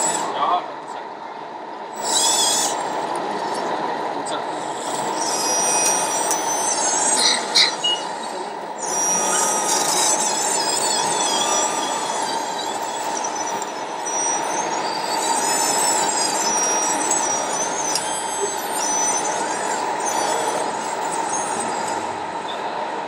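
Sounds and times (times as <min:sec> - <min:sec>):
high-pitched motor whine: 0:00.0 - 0:23.0
steady hum: 0:00.0 - 0:23.0.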